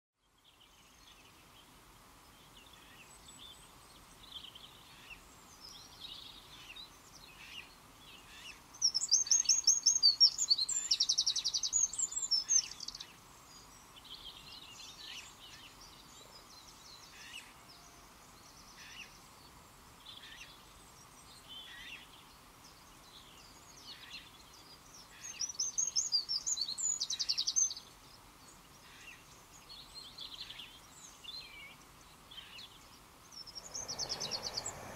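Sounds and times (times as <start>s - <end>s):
birds chirping softly: 0.2s - 34.9s
songbird trilling song: 2.3s - 34.9s.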